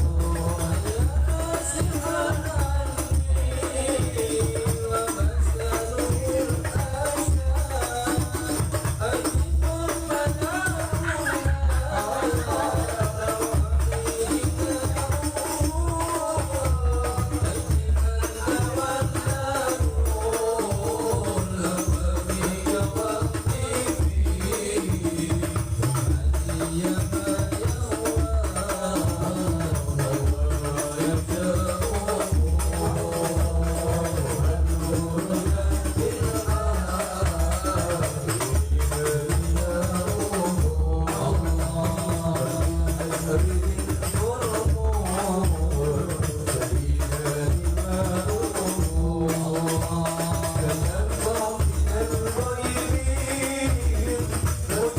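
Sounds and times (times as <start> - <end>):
frame drums beat: 0.0 - 54.9.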